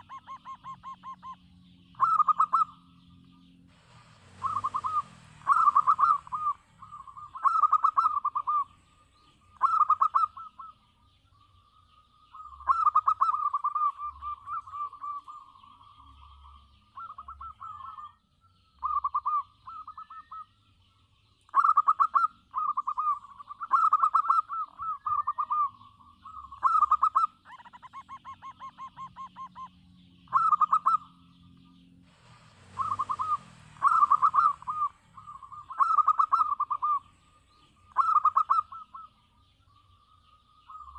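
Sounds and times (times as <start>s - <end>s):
dove cooing: 0.0s - 3.0s, 3.8s - 10.9s, 12.3s - 18.2s, 18.8s - 20.6s, 21.5s - 39.2s.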